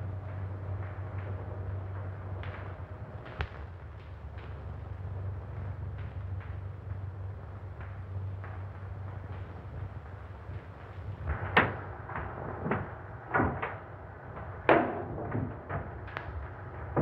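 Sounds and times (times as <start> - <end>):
film soundtrack hum and hiss: 0.0 - 17.0.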